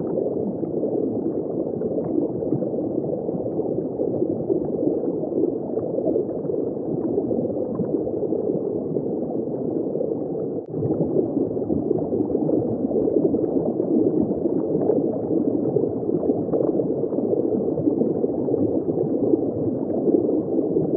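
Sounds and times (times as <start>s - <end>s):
underwater bubbling and rushing: 0.0s - 20.9s.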